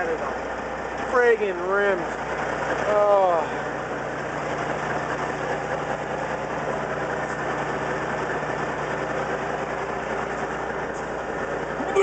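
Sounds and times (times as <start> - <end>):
truck diesel engine idling: 0.0 - 12.0.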